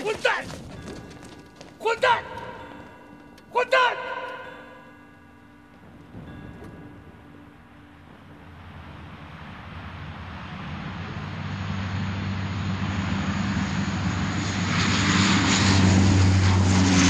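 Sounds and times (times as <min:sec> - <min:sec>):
propeller plane engines droning: 0:00.0 - 0:17.0.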